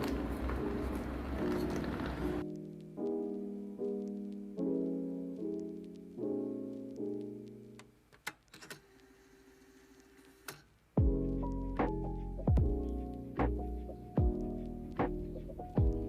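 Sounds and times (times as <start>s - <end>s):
soft piano chords: 0.0s - 8.1s, 11.0s - 16.0s.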